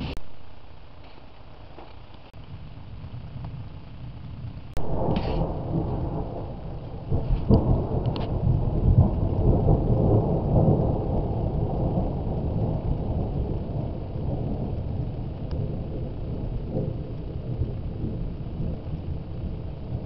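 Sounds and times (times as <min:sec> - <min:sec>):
thunder rumbling: 0:01.6 - 0:20.0.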